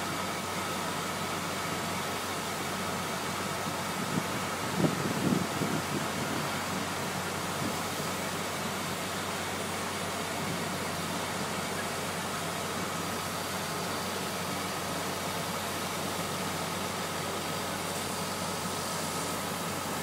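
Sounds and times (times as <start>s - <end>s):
faint steady whine: 0.0s - 20.0s
fire truck engines running: 0.0s - 20.0s.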